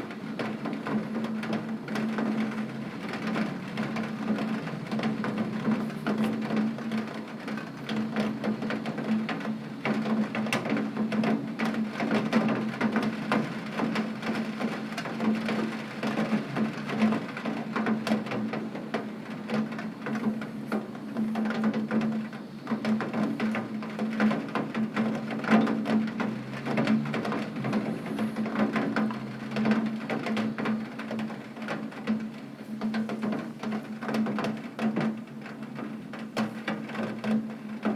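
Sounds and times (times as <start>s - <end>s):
heavy rain on window: 0.0s - 37.9s.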